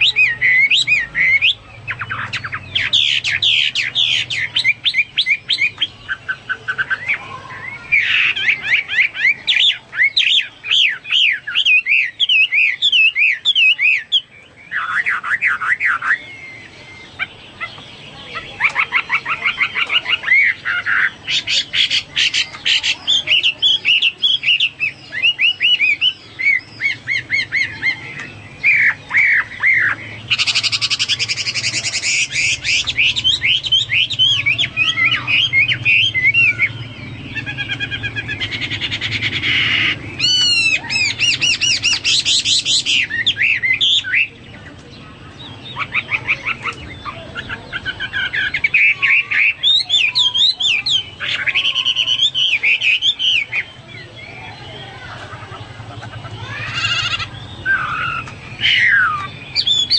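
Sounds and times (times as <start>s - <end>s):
harsh rasping bird call: 0.0s - 44.4s, 45.6s - 59.9s
bird singing whistled trills: 0.0s - 44.5s, 45.4s - 55.2s, 56.5s - 59.9s.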